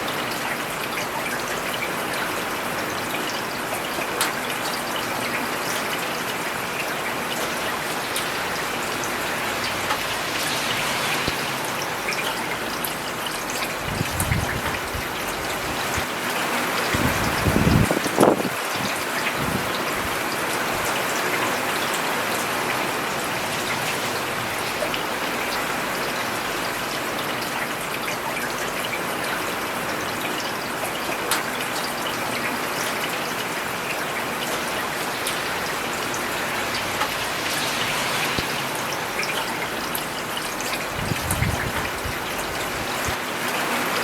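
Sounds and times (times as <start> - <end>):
rain on a paved road: 0.0 - 44.0.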